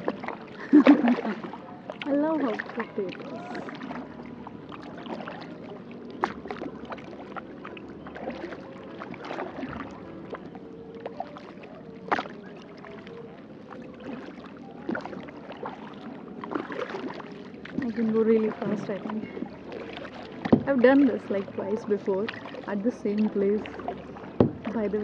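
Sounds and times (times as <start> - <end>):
paddle splashing in water: 0.0 - 25.0.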